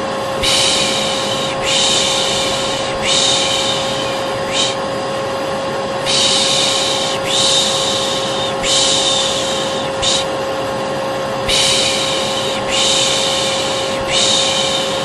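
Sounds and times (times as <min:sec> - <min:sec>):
vacuum cleaner motor humming: 0:00.0 - 0:15.0
person shushing: 0:00.4 - 0:04.8, 0:06.0 - 0:10.4, 0:11.5 - 0:15.0.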